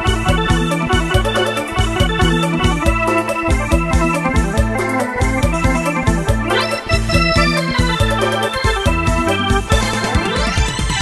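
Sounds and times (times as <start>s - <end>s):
keyboard chords: 0.0s - 11.0s
steady drum beat: 0.0s - 11.0s.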